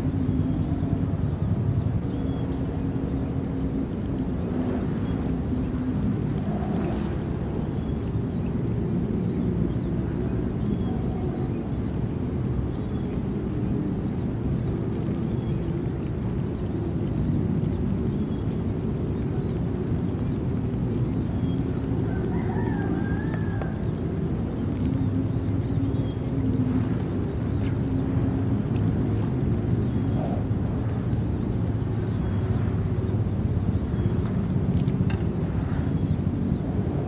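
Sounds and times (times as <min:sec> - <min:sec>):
faint hum: 0:00.0 - 0:37.0
low outdoor rumble: 0:00.0 - 0:37.0.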